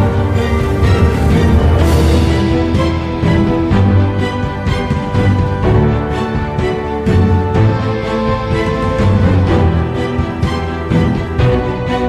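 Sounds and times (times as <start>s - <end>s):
music with sustained chords: 0.0s - 12.0s.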